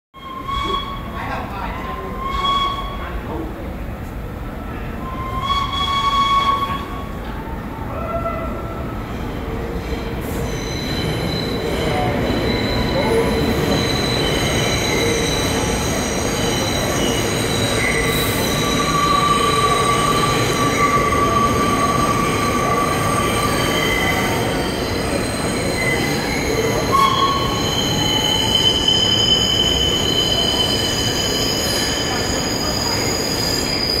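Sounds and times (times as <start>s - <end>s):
steel wheels squealing: 0.2s - 1.2s, 5.0s - 7.2s, 9.9s - 34.0s
subway train rumbling: 0.2s - 34.0s.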